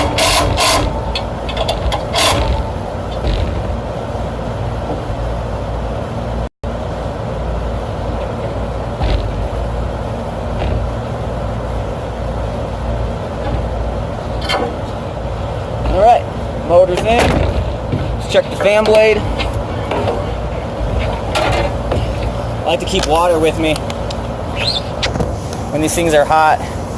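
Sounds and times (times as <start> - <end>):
outdoor rumble and hiss: 0.0 - 26.9.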